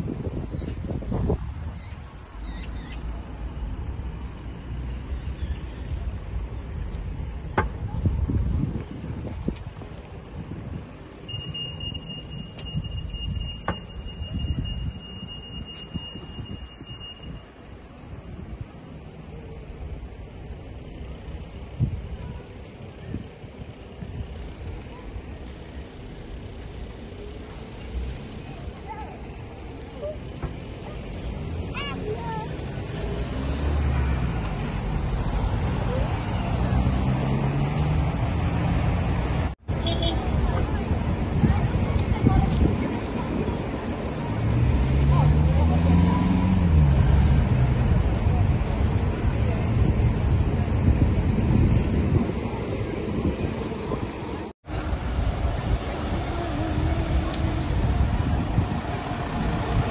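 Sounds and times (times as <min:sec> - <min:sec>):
moving vehicle rumble: 0:00.0 - 0:59.9
road traffic noise: 0:00.0 - 0:59.9.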